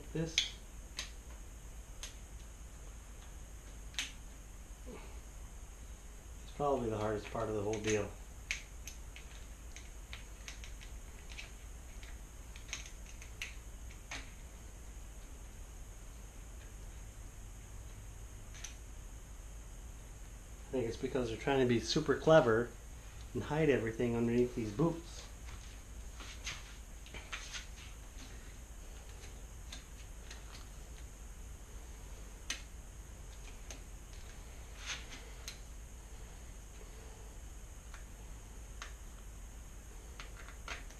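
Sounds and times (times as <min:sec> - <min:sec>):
low steady hum: 0:00.0 - 0:40.9.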